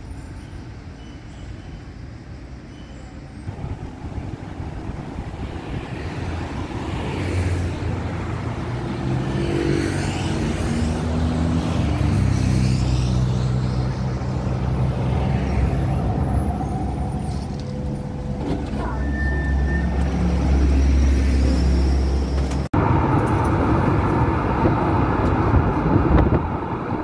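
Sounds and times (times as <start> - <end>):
tram running hum: 0.0 - 27.0
cars passing: 3.5 - 27.0.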